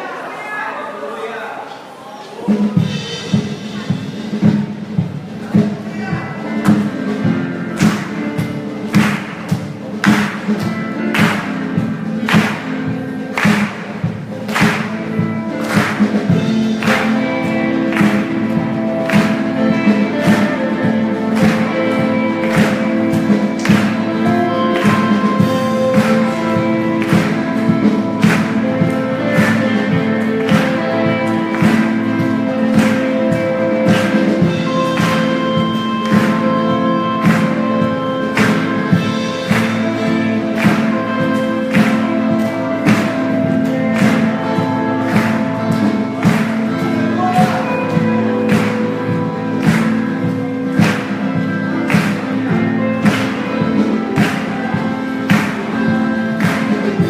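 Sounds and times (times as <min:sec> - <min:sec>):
band playing instrumental: 0:01.8 - 0:57.0
percussion hits: 0:02.4 - 0:57.0.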